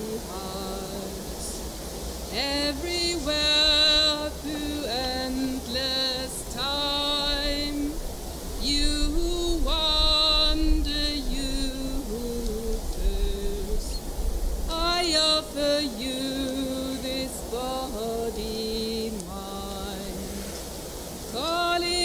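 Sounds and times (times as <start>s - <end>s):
man and woman chanting: 0.0s - 8.0s, 8.6s - 14.1s, 14.7s - 20.6s, 21.3s - 22.0s.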